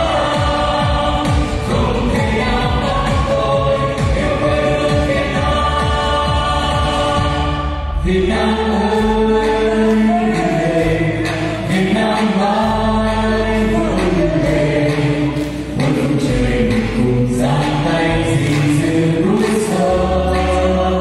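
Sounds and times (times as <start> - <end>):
vocal ensemble singing: 0.0 - 21.0.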